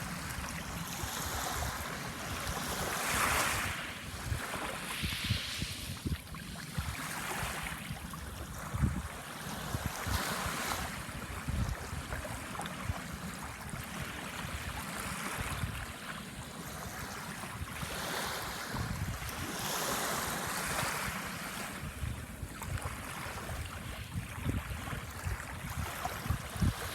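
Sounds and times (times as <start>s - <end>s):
wind buffeting microphone: 0.0s - 15.9s, 17.0s - 26.9s
small waves washing ashore: 0.0s - 26.9s.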